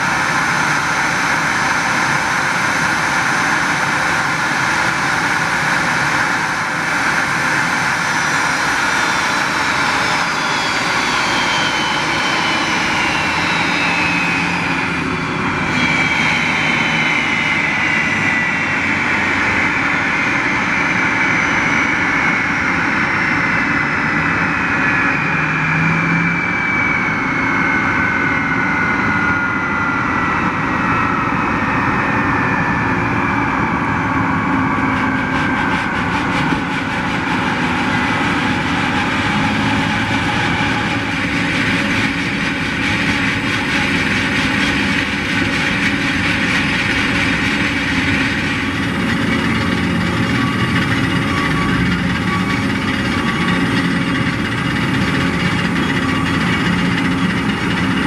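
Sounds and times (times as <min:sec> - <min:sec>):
idling jet rumble and hiss: 0:00.0 - 0:58.0
jet engine whine spooling down: 0:00.0 - 0:58.0.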